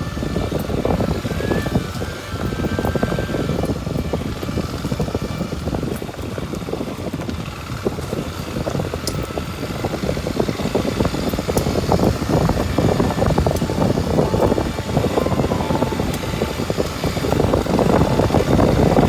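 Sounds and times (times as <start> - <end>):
motorcycle engine pulsing: 0.0 - 19.0.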